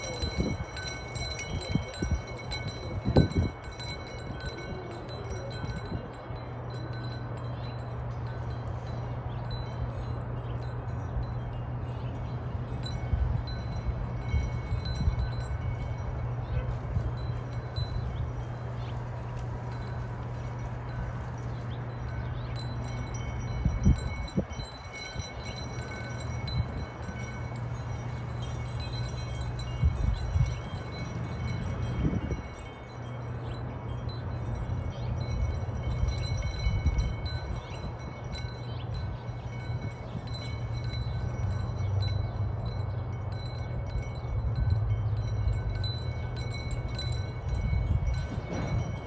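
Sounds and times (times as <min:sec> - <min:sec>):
low wind buffets: 0:00.0 - 0:49.0
wind chimes ringing: 0:00.0 - 0:49.0.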